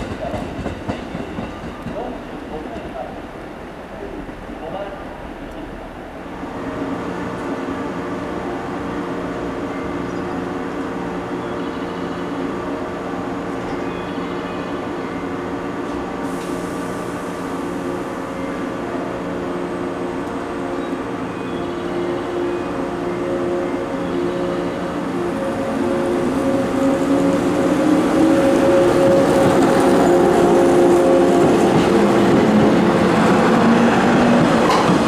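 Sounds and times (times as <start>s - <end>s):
train machinery humming: 0.0s - 35.0s.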